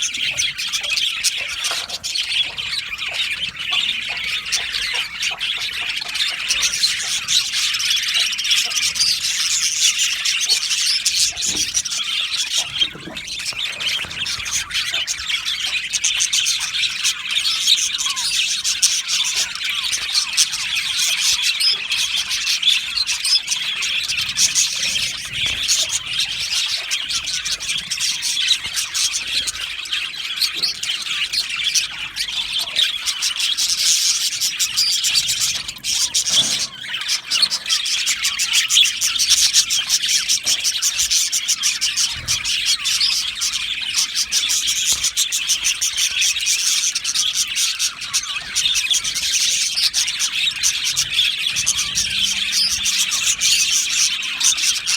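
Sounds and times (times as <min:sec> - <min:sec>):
budgerigars chattering: 0:00.0 - 0:54.9.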